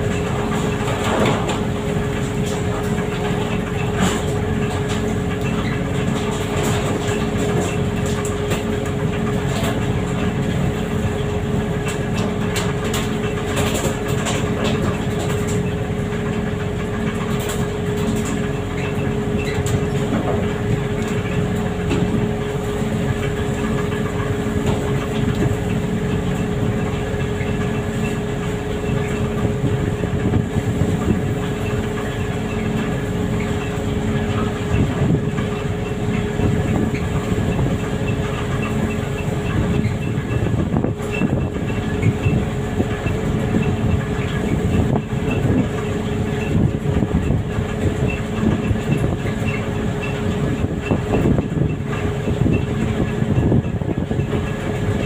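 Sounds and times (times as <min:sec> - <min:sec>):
boat engine droning: 0:00.0 - 0:55.0
sea water rushing along hull: 0:00.0 - 0:55.0.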